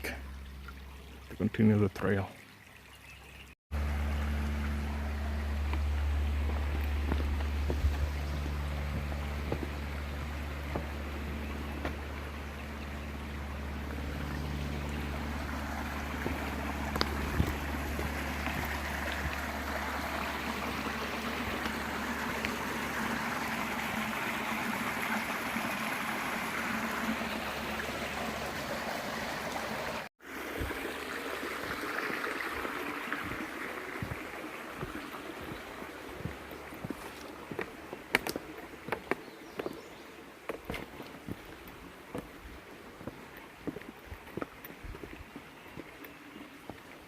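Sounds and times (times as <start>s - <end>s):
creek water gurgling over rocks: 0.0s - 47.0s.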